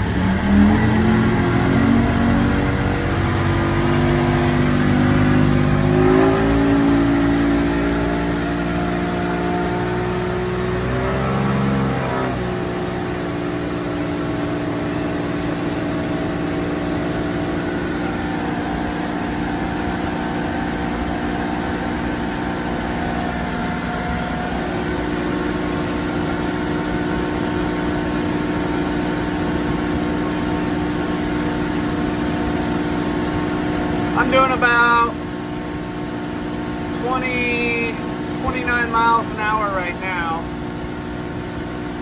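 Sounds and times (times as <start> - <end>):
outboard motor running: 0.0 - 42.0
wind and water rush: 0.0 - 42.0.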